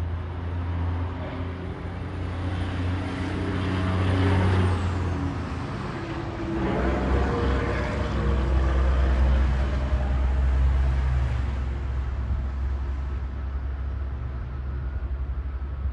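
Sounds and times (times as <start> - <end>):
vehicle engine rumble passing: 0.0 - 15.9.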